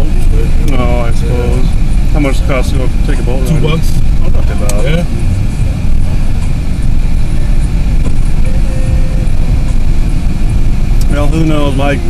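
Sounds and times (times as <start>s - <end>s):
car interior driving rumble: 0.0s - 12.0s.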